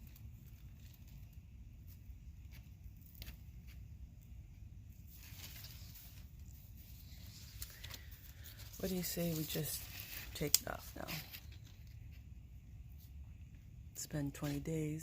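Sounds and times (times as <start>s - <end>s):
corn husks rustling: 0.0s - 12.4s.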